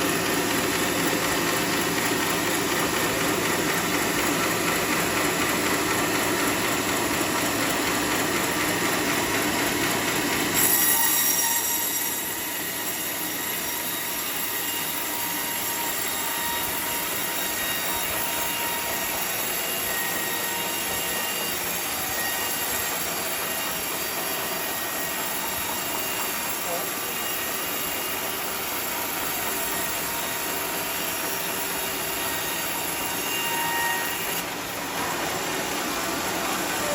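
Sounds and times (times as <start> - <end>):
sawmill saw screeching whine: 0.0 - 36.9.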